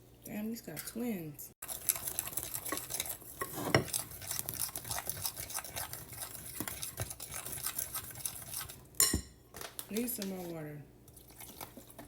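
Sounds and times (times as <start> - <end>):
utensil stirring batter in bowl: 0.3 - 9.2, 9.9 - 12.0.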